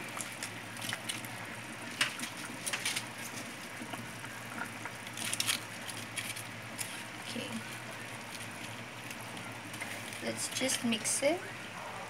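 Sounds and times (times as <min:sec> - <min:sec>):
cabbage leaves rustling into pot: 0:00.0 - 0:11.2
low steady hum: 0:00.0 - 0:12.0.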